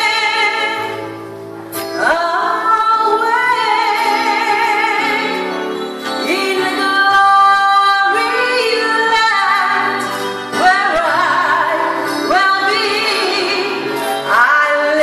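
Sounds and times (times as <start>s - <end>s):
electric keyboard accompaniment: 0.0s - 15.0s
woman singing gospel song: 2.0s - 5.4s, 6.2s - 15.0s.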